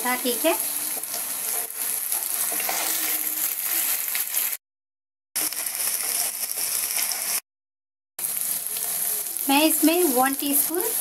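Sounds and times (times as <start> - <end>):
onions sizzling in oil: 0.0 - 4.6, 5.4 - 7.4, 8.2 - 11.0.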